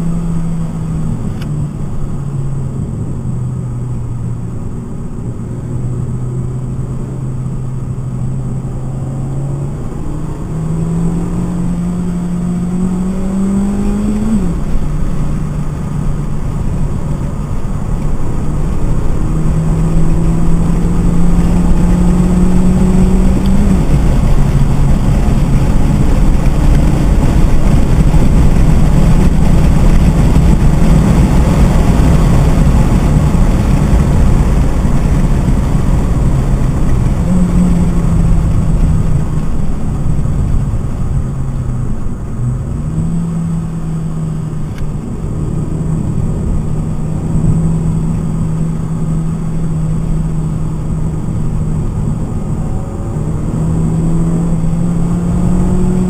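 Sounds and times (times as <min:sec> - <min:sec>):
car engine under load: 0:00.0 - 0:56.0.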